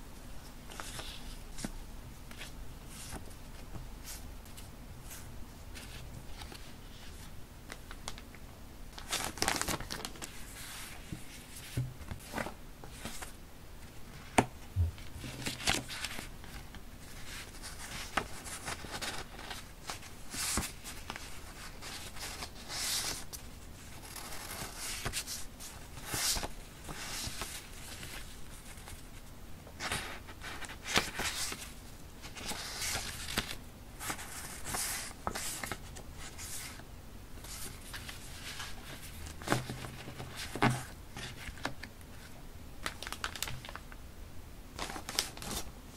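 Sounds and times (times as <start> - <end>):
paper rustling and crinkling: 0.6 - 8.3, 9.0 - 29.2, 29.8 - 36.8, 37.4 - 43.9, 44.8 - 45.7.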